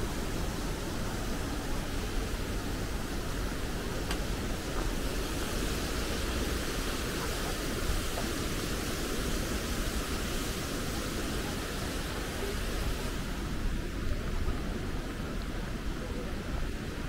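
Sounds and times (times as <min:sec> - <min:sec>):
steady broadband rushing noise: 0:00.0 - 0:17.0.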